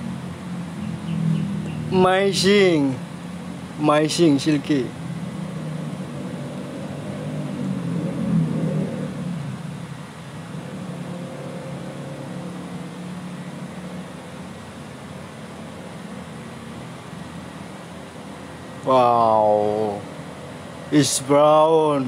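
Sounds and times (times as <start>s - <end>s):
air conditioner unit humming: 0.0s - 22.0s.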